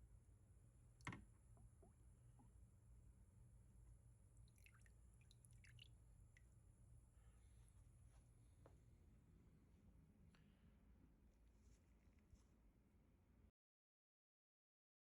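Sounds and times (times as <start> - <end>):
low room hum: 0.0 - 13.5.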